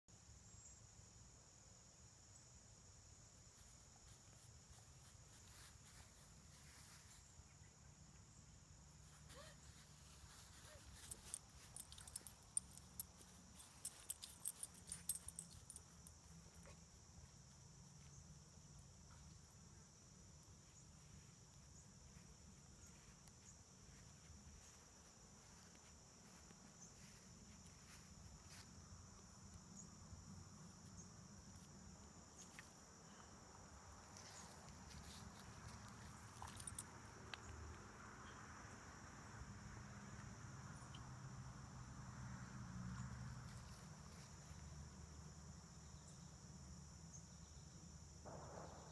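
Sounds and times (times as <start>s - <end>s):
insects chirring: 0.3s - 48.9s.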